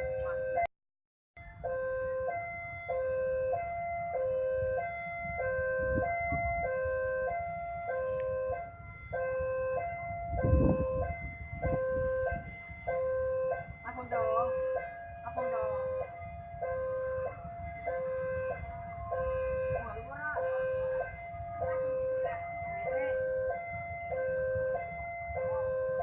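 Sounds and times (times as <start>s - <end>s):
low traffic rumble: 1.4s - 26.0s.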